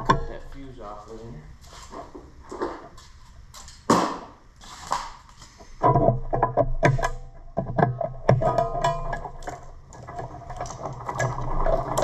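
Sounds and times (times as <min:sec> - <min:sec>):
wiring work noises: 0:00.0 - 0:12.0.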